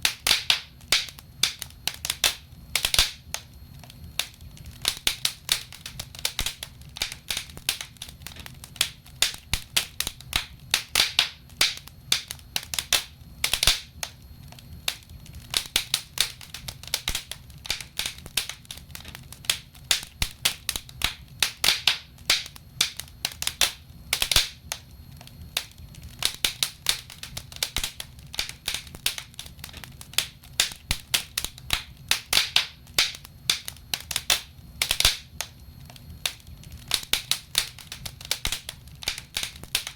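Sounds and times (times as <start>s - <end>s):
logs crackling in a fireplace: 0.0s - 39.9s.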